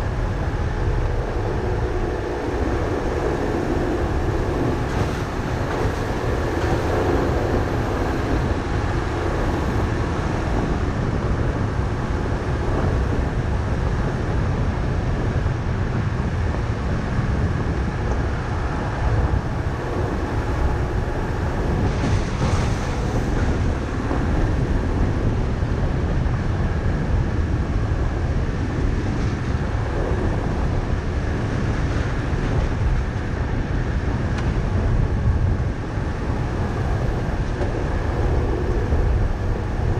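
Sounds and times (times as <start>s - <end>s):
car engine noise: 0.0s - 39.9s.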